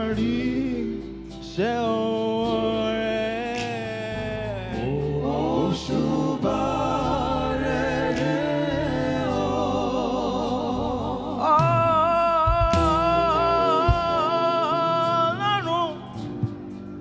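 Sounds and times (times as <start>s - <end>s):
gospel music with singing: 0.0s - 17.0s.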